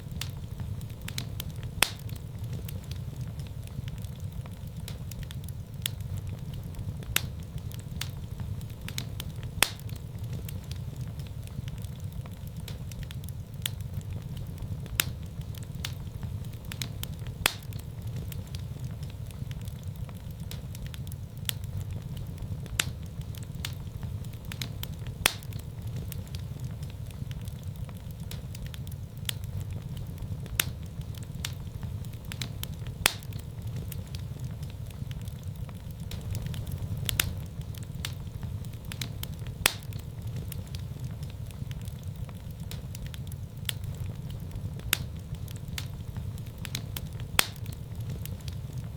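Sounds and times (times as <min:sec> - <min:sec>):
fire crackling and popping: 0:00.0 - 0:48.9
low rumble of flames: 0:00.0 - 0:48.9.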